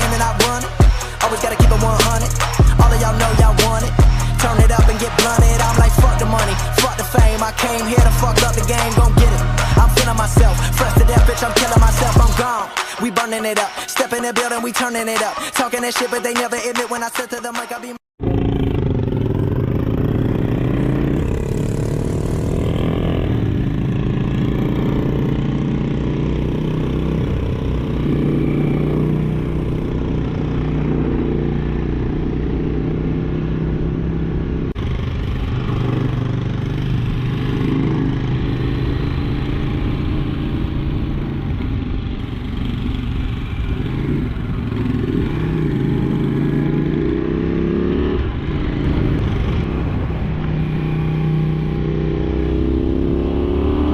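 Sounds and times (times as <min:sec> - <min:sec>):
motorcycle engine revving: 0:00.0 - 0:12.5, 0:18.2 - 0:53.9.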